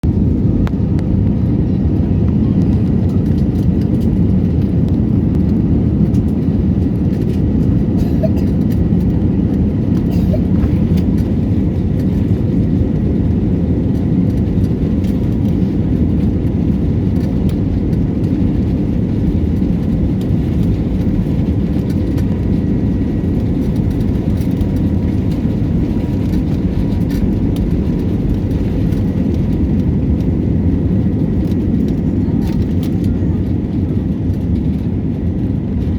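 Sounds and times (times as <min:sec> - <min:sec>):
jet engines low rumble: 0:00.0 - 0:35.9.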